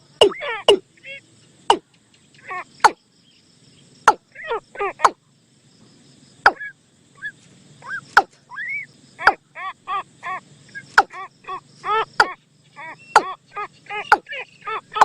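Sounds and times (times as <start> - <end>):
bird chattering calls: 0.0 - 3.0, 4.0 - 5.2, 6.5 - 15.0.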